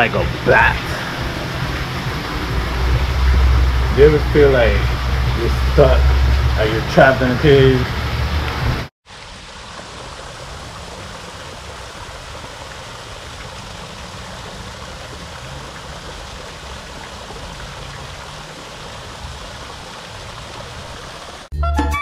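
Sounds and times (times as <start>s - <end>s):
water pouring over waterfall: 0.0s - 21.5s.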